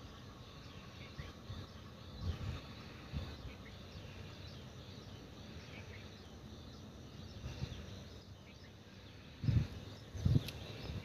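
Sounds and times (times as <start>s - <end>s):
small bird chirps: 0.0s - 11.0s.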